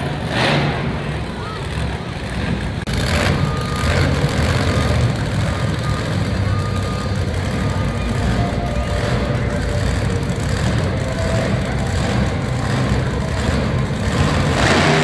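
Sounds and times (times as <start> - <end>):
heavy vehicle engine running: 0.0 - 15.0
reversing beeper: 2.9 - 15.0.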